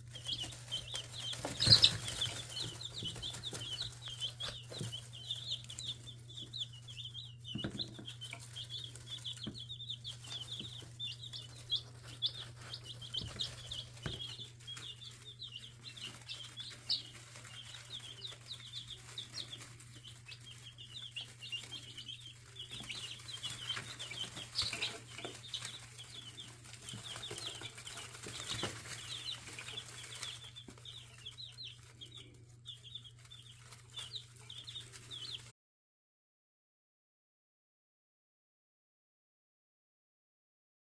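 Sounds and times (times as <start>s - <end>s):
chicks peeping: 0.0s - 35.5s.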